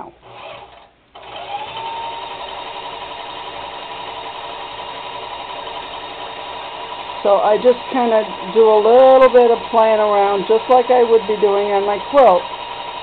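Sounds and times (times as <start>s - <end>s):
quilting machine whining: 0.0s - 13.0s.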